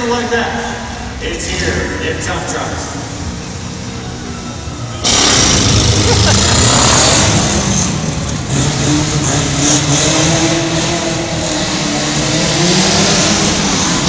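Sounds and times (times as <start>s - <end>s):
race car engines accelerating: 0.0s - 14.0s.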